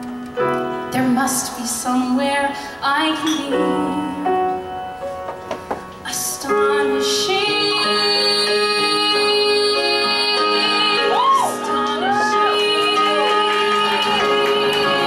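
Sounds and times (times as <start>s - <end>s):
piano accompaniment: 0.0s - 15.0s
woman singing ballad: 0.9s - 4.8s, 6.0s - 15.0s.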